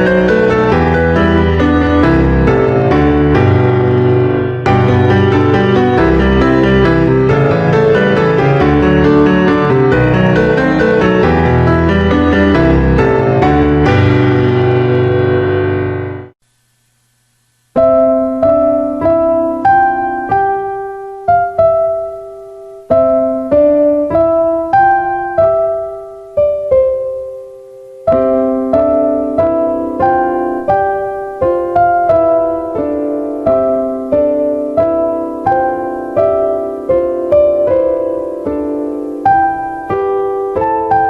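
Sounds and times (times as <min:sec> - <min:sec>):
piano melody: 0:00.0 - 0:16.4, 0:17.8 - 0:41.0.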